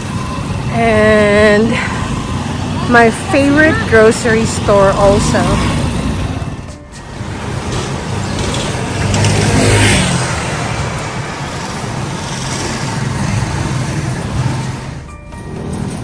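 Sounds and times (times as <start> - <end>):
road vehicle noise: 0.0 - 16.0
vehicle passing close by: 0.0 - 16.0.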